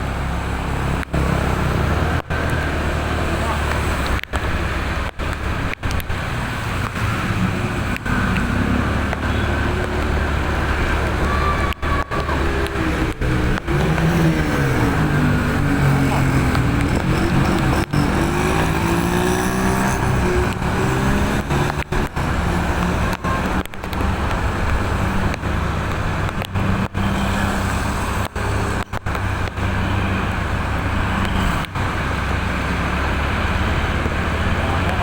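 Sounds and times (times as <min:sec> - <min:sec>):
road traffic noise: 0:00.0 - 0:35.0
vehicle engine humming: 0:00.0 - 0:35.0.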